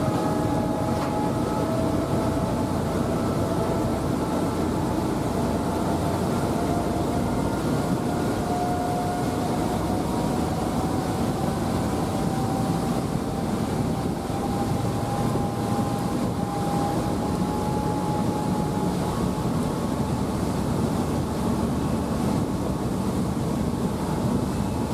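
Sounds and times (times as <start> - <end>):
faint high whine: 0.0 - 24.9
ferry engine drone: 0.0 - 24.9.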